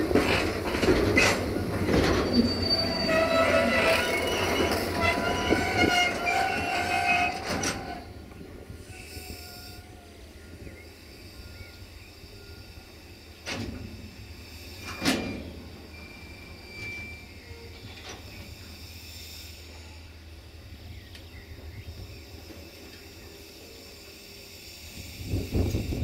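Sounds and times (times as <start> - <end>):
train wheels squealing on rails: 0.0 - 26.0.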